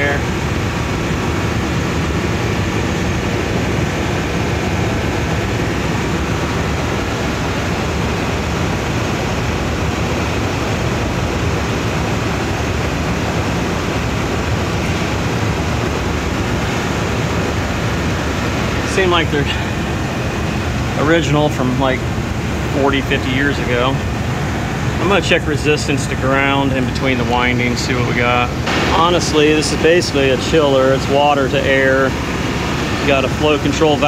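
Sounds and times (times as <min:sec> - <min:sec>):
air conditioning plant rushing: 0:00.0 - 0:34.0
constant hum: 0:00.0 - 0:34.0.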